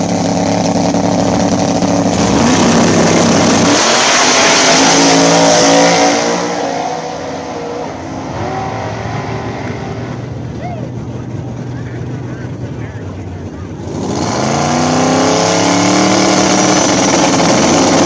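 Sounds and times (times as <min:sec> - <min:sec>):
drag-race engines revving: 0:00.0 - 0:18.0.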